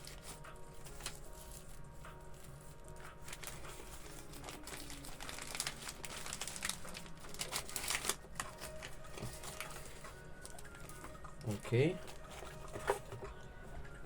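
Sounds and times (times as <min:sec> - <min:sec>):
packaging crinkling and rustling: 0:00.0 - 0:13.4.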